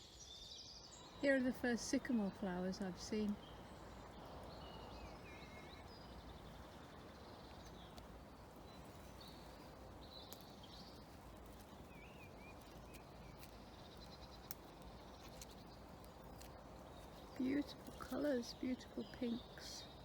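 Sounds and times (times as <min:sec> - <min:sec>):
small birds chirping: 0:00.0 - 0:20.0
steady background hiss: 0:00.0 - 0:20.0.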